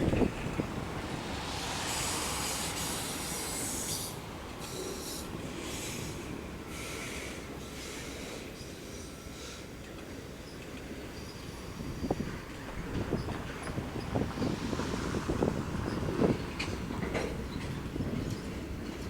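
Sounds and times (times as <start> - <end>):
train cars rolling on rails: 0.0 - 19.0
high hiss of train wheels: 0.5 - 18.8.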